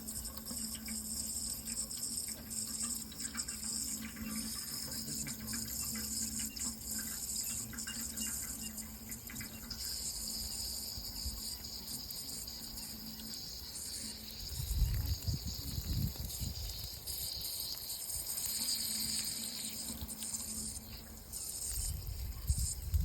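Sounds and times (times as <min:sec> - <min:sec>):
faint drips and clicks: 0:00.0 - 0:23.0
running water splashing: 0:00.0 - 0:23.0.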